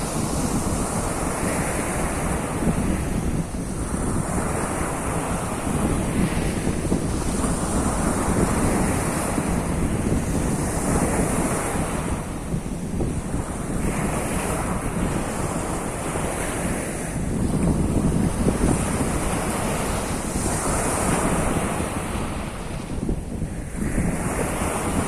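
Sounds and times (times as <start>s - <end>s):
surf washing onto shore: 0.0s - 25.0s
wind rumbling on microphone: 0.0s - 25.0s.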